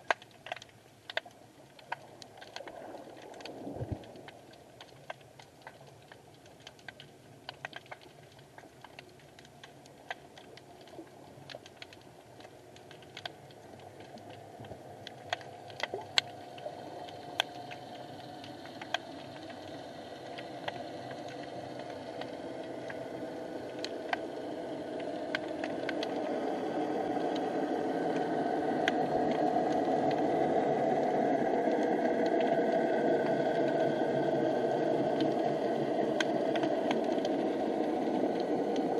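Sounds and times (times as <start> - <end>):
underwater clicks and crackles: 0.0 - 38.9.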